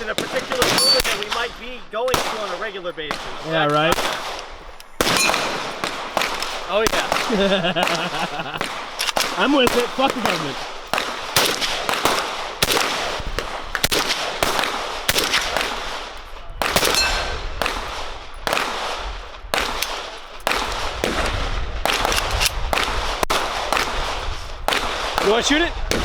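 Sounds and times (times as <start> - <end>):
gunshots with short echo: 0.0 - 26.0.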